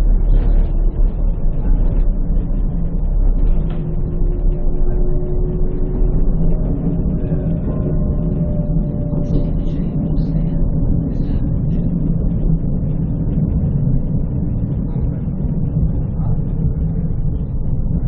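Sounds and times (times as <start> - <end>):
tram wheels rumbling: 0.0 - 18.0.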